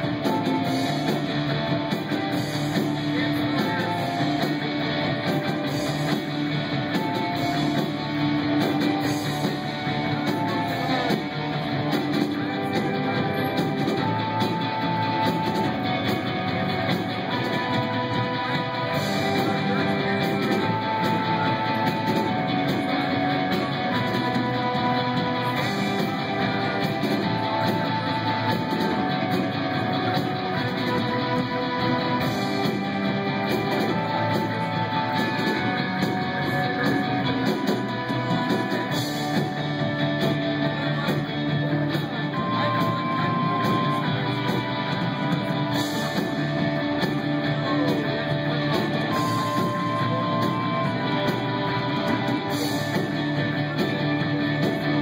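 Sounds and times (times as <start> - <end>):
electric guitar held notes: 0.0 - 55.0
live band playing: 0.0 - 55.0.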